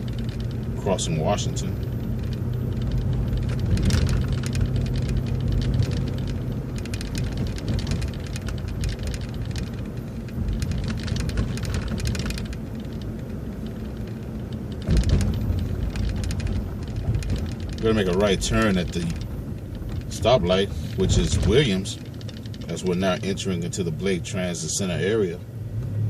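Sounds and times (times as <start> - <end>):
bus engine drone: 0.0 - 26.0
road and tyre noise: 0.0 - 26.0
cabin rattling: 2.1 - 23.3.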